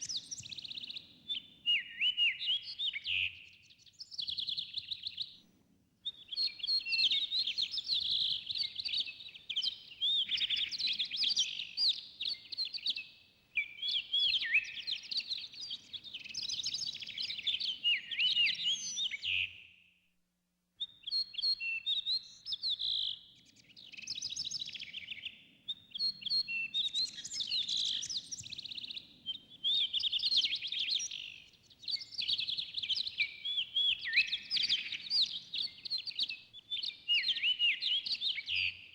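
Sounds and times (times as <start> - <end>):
songbirds singing: 0.0 - 5.4, 6.1 - 19.7, 20.8 - 38.9.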